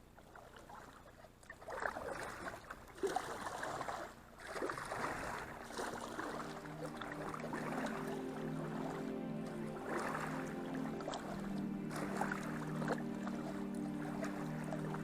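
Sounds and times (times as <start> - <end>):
paddle splashing in water: 0.2 - 15.0.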